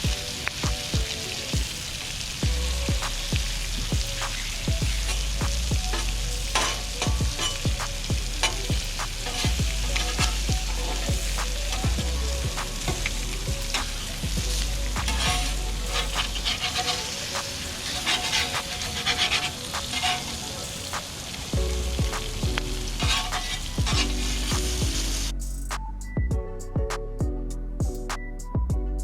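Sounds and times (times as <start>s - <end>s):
food sizzling on a griddle: 0.0s - 25.3s.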